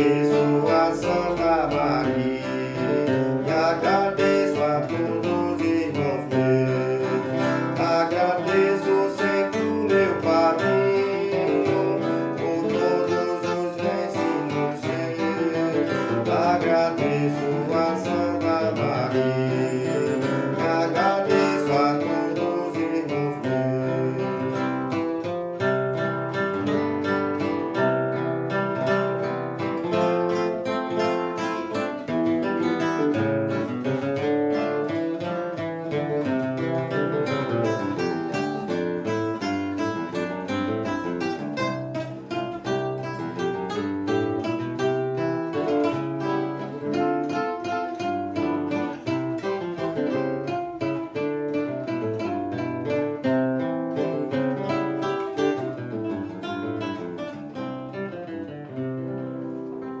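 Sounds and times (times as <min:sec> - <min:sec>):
acoustic guitar strumming and picking: 0:00.0 - 1:00.0.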